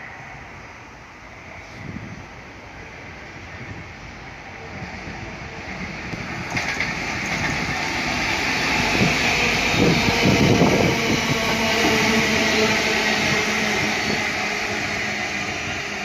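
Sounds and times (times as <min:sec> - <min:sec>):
diesel locomotive engine: 0:00.0 - 0:16.0
wheels hissing on rail: 0:00.0 - 0:16.0.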